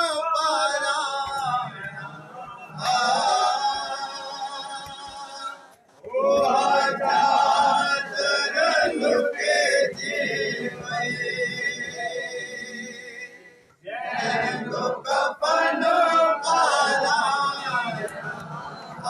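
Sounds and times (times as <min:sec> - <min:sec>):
men singing a lament: 0:00.0 - 0:19.0.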